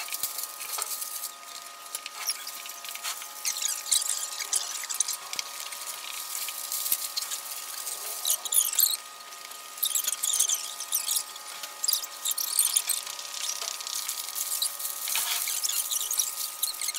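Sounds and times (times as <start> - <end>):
sped-up paper crumpling: 0.0 - 9.0, 9.8 - 16.9.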